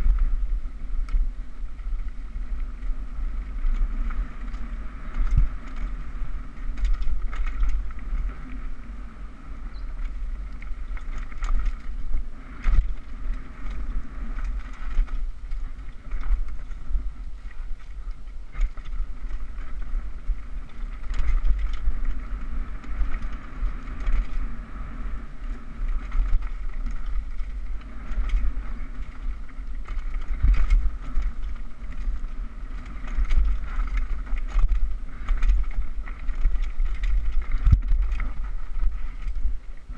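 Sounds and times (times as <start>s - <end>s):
tyres rumbling over dirt: 0.0s - 39.9s
wind buffeting on microphone: 0.0s - 39.9s
bike knocks and rattles: 1.0s - 39.9s.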